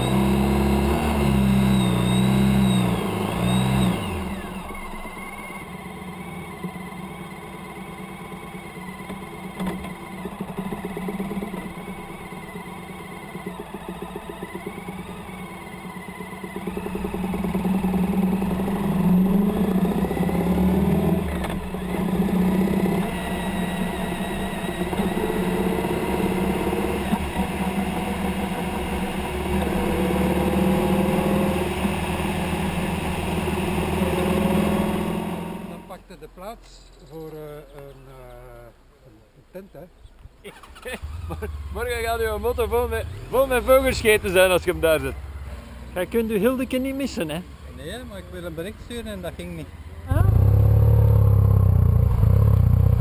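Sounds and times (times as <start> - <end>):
motorcycle engine accelerating: 0.0 - 36.1, 40.5 - 53.0.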